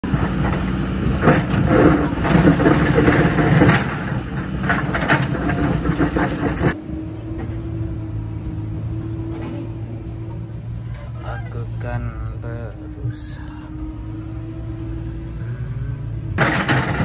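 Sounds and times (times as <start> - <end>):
dump truck engine drone from cab: 0.0 - 17.0
excavator diesel engine under load: 0.0 - 17.0.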